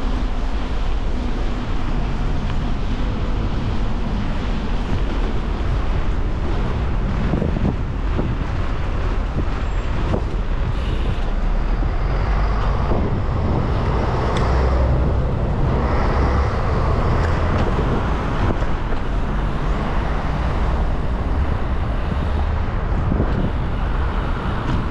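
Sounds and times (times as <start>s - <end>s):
road traffic passing: 0.0s - 24.9s
wind on microphone: 0.0s - 24.9s.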